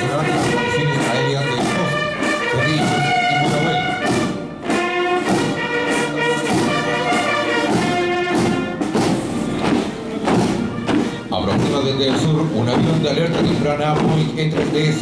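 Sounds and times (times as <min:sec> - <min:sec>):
brass holding chords: 0:00.0 - 0:15.0
military marching band: 0:00.0 - 0:15.0
steady drum beat: 0:00.0 - 0:15.0.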